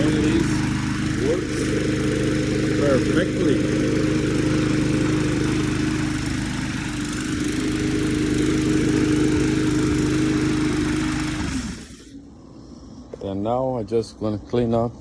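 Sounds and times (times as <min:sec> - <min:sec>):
lawn mower engine running: 0:00.0 - 0:12.2.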